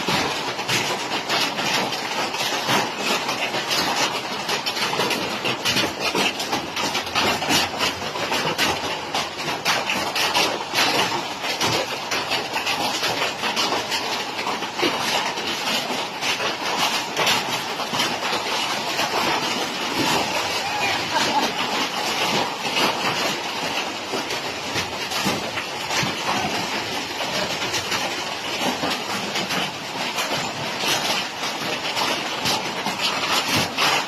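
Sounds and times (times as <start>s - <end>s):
hailstones clattering: 0.0s - 34.0s.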